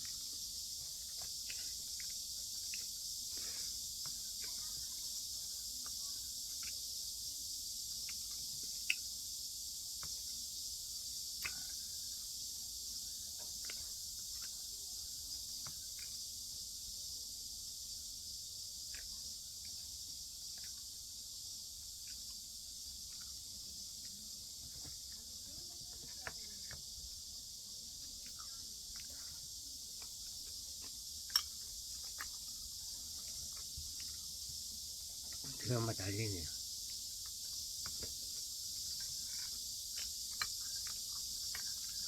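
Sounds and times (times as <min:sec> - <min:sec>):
high-pitched hiss: 0:00.0 - 0:42.0.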